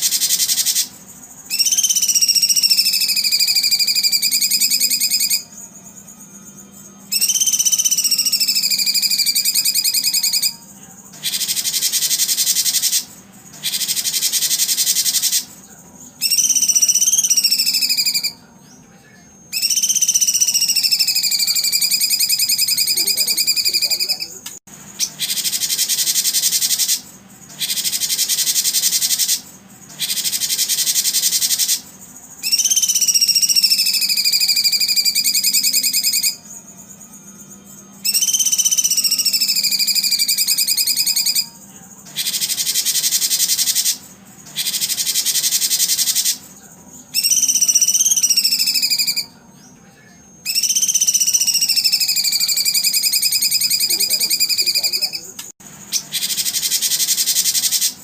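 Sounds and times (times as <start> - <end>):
buzzy bird trills: 0.0 - 18.8, 19.4 - 58.0
wavering whistled bird notes: 0.0 - 24.4, 25.0 - 58.0.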